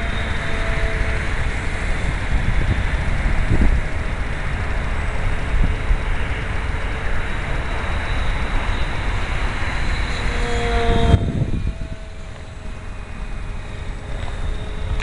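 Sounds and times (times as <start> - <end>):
model plane motor whine: 0.0 - 15.0
wind noise on microphone: 0.0 - 15.0.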